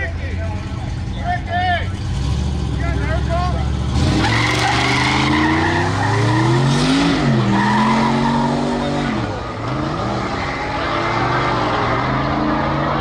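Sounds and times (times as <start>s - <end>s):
supercharged truck engine revving: 1.8s - 13.0s.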